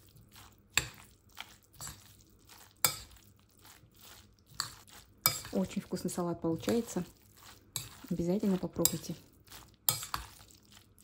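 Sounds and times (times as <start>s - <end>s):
spoon stirring salad: 0.0s - 11.0s.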